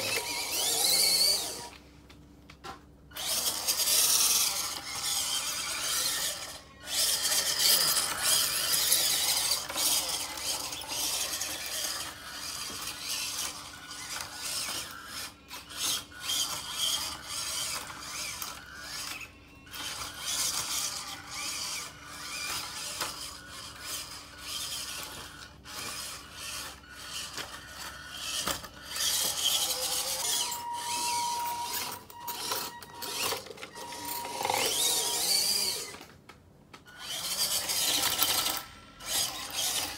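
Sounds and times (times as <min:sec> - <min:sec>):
toy car motor whining: 0:00.0 - 0:01.8, 0:03.1 - 0:36.2, 0:36.8 - 0:39.9.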